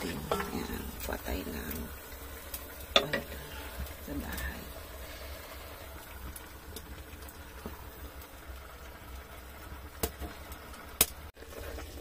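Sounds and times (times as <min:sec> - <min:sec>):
burning wood popping: 0:00.0 - 0:12.0
stew bubbling in a pot: 0:00.0 - 0:12.0.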